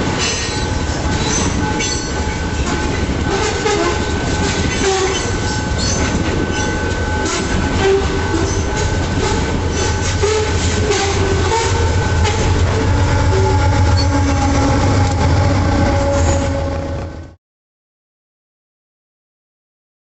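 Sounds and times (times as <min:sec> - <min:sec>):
freight train rumble: 0:00.0 - 0:17.4.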